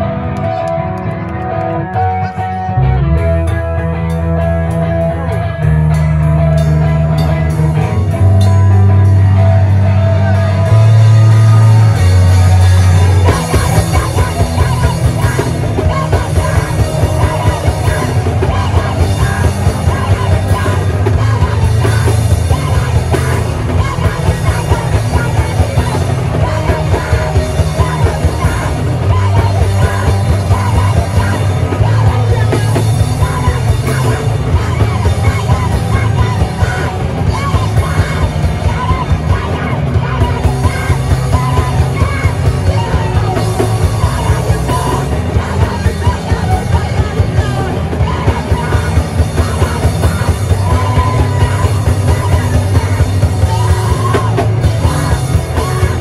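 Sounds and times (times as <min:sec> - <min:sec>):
heavy rock band playing live: 0:00.0 - 0:56.0
rock vocals: 0:00.0 - 0:56.0
drums fast driving beat: 0:03.2 - 0:56.0.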